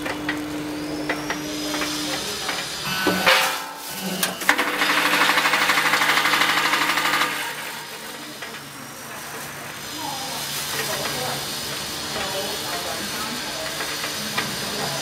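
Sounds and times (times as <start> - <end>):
vibratory feeder buzzing: 0.0 - 15.0.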